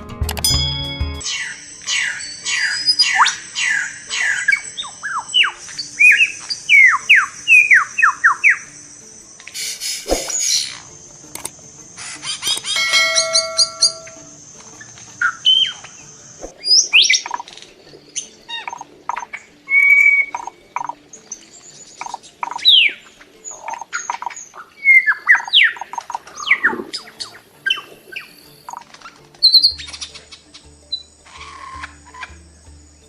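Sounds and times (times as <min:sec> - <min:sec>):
soft background music: 0:00.0 - 0:33.0
birds calling: 0:01.2 - 0:33.0.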